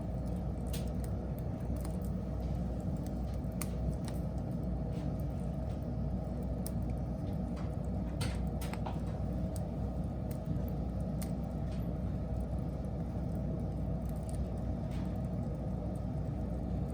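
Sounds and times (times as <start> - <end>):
fire rumbling: 0.0 - 16.9
wood crackling and popping: 0.0 - 16.9.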